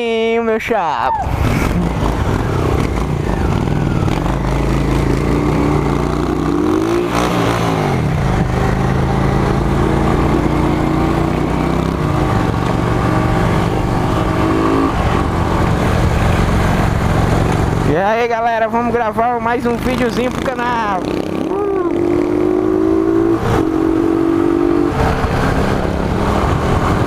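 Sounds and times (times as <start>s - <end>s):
motorcycle engine running: 1.6s - 27.0s.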